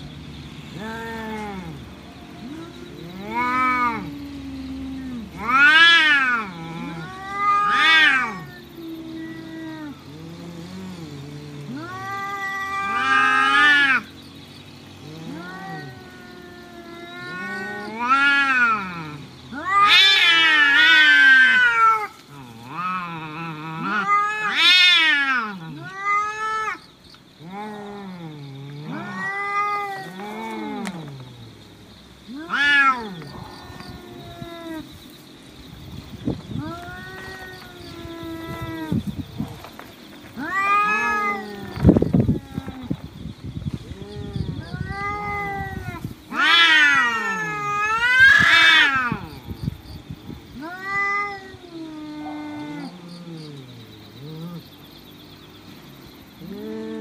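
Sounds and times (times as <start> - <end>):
cats yowling: 0.7 - 31.6, 32.3 - 57.0.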